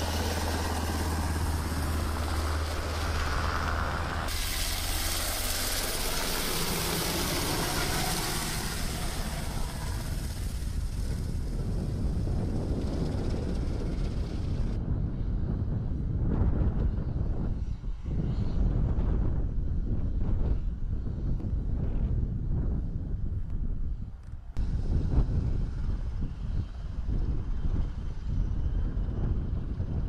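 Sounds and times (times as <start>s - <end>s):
helicopter flying overhead: 0.0s - 30.0s.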